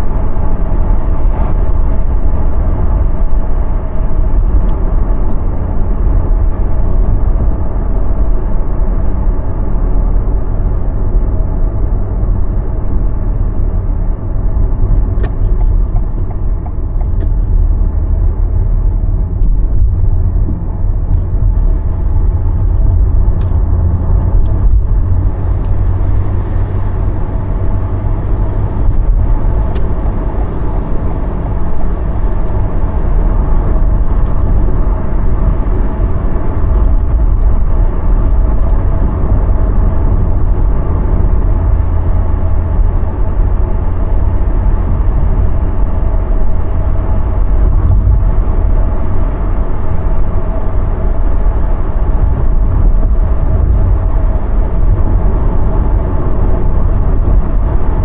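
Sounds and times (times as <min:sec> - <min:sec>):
car road noise rumble: 0:00.0 - 0:58.0.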